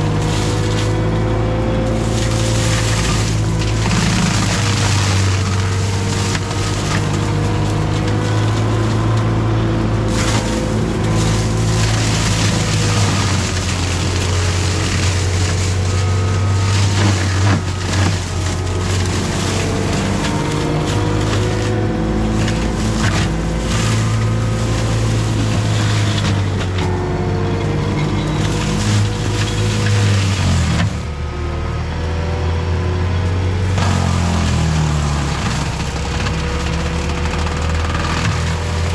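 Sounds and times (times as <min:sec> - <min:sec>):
wood cracking: 0:00.0 - 0:31.3, 0:32.6 - 0:38.9
diesel engine running hard: 0:00.0 - 0:38.9
mulcher grinding brush and wood: 0:00.0 - 0:38.9.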